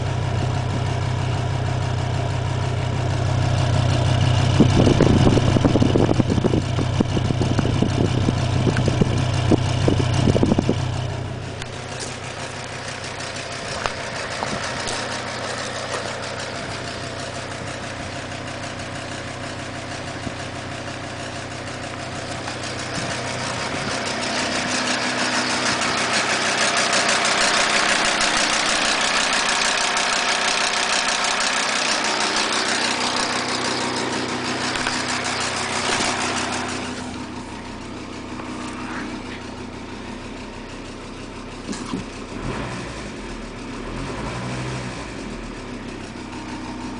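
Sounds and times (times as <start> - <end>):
rapid engine ticking: 0.0 - 44.4
diesel engine running: 0.0 - 46.9.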